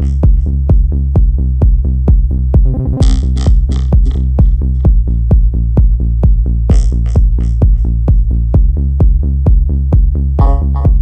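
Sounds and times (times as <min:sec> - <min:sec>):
bass line: 0:00.0 - 0:11.0
techno kick drum: 0:00.0 - 0:11.0.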